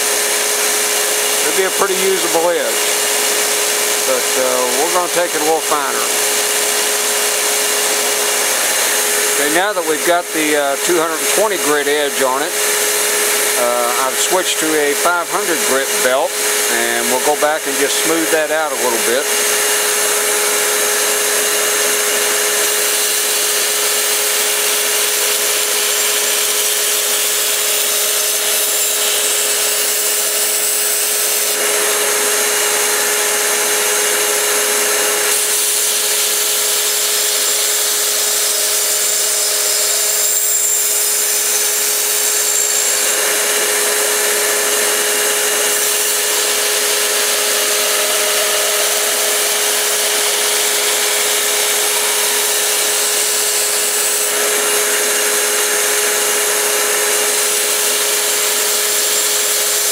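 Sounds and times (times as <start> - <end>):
belt grinder whine: 0.0 - 59.9.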